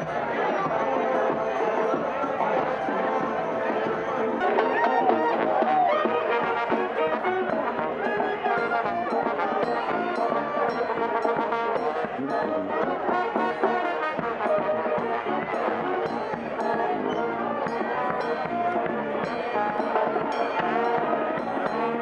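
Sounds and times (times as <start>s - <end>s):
brass band playing: 0.0s - 22.0s
sousaphone: 0.0s - 22.0s.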